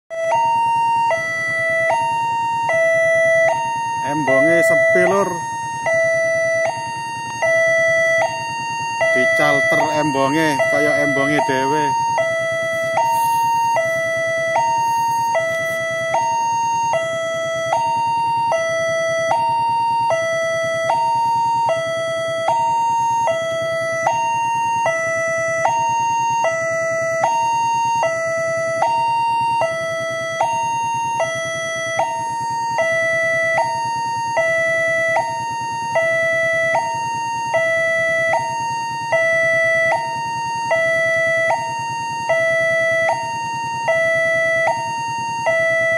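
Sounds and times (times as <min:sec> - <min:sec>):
level crossing two-tone alarm: 0:00.1 - 0:45.9.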